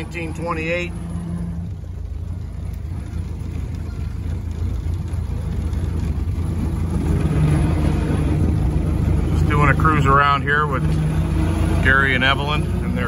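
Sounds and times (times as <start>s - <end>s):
car engine running from inside cabin: 0.0s - 13.0s.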